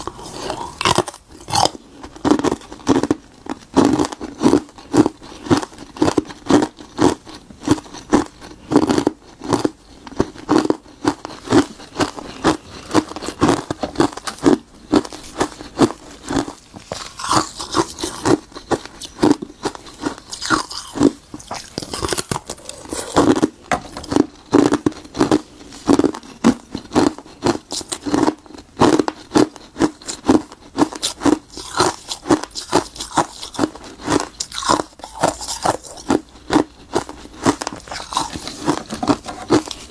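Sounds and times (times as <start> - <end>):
crunching ice: 0.0 - 39.9.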